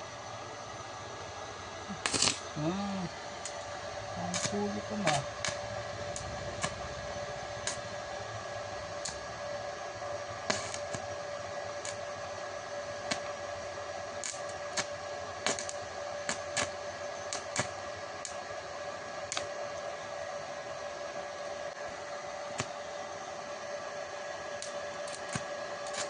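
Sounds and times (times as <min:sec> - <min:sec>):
welder hissing and humming: 0:00.0 - 0:26.0.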